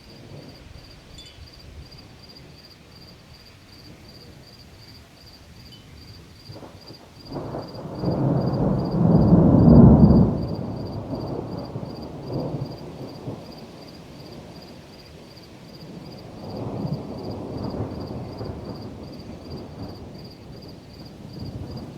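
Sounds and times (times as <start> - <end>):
thunder rumbling: 0.0 - 3.0, 6.0 - 21.9.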